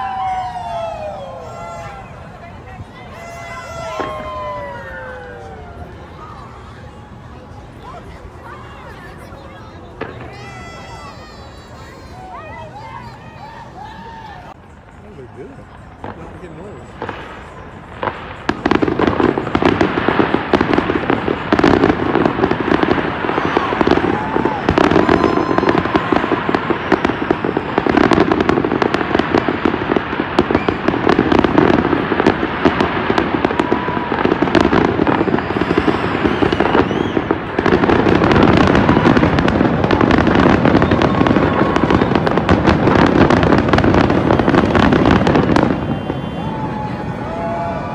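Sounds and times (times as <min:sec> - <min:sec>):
fireworks bangs and crackling: 0:00.0 - 0:47.9.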